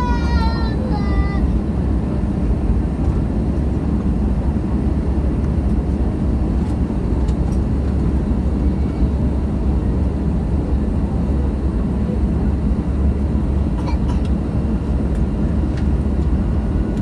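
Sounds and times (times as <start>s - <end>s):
airliner engine rumble: 0.0s - 17.0s.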